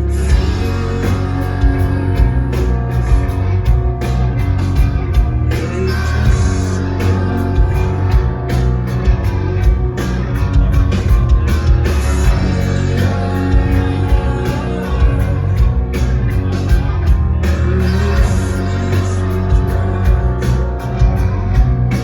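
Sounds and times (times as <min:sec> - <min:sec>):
distorted guitars: 0:00.0 - 0:22.0
heavy bass: 0:00.0 - 0:22.0
steady drum beat: 0:00.0 - 0:22.0.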